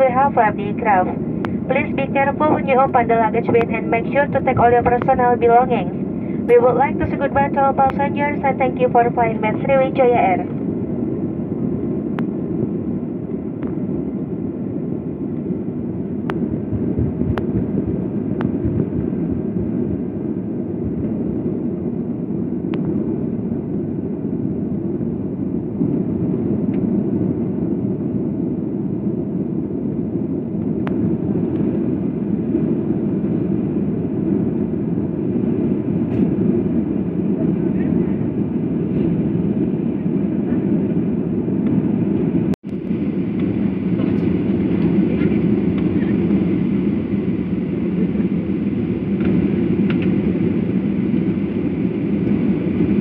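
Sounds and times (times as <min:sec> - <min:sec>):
airplane cabin rumble on runway: 0:00.0 - 0:53.0.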